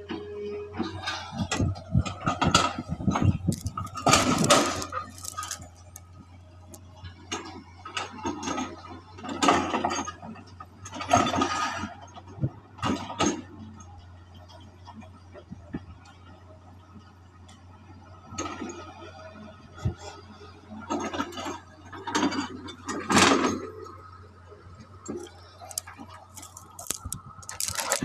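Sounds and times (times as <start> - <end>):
excavator clanking and scraping: 0.0 - 28.0.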